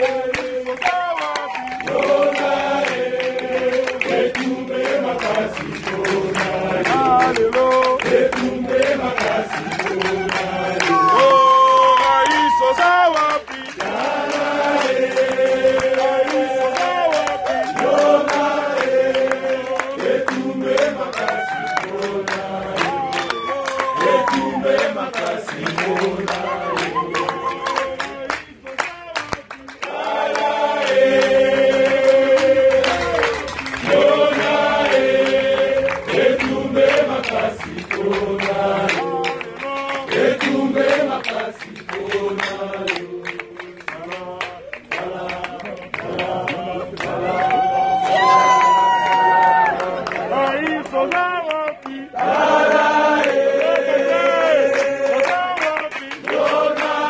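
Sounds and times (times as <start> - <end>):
crowd singing in chorus: 0.0 - 57.0
voices chanting together: 0.0 - 57.0.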